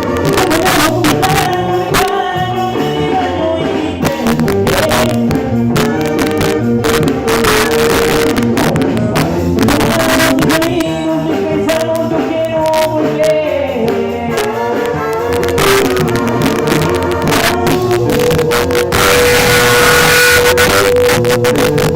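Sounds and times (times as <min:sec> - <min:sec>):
band music over sound system: 0:00.0 - 0:21.9.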